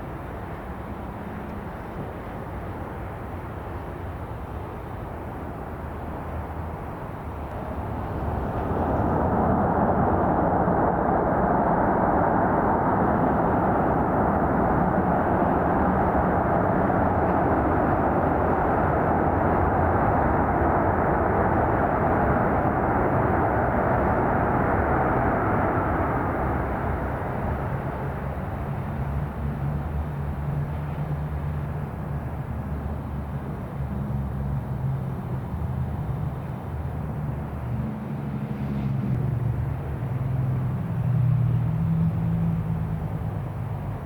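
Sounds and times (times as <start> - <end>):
jet airliner engines running: 0.0 - 44.0.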